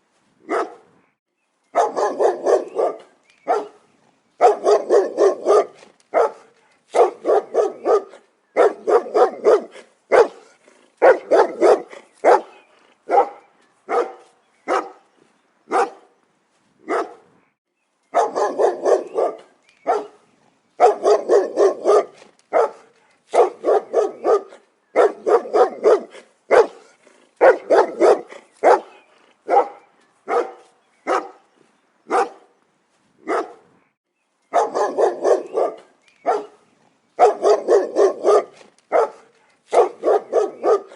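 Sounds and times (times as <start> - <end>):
dog barking: 0.5 - 0.9, 1.7 - 3.8, 4.4 - 15.0, 15.7 - 16.1, 16.9 - 17.3, 18.1 - 20.2, 20.8 - 31.4, 32.1 - 32.5, 33.2 - 33.7, 34.5 - 36.6, 37.2 - 40.9.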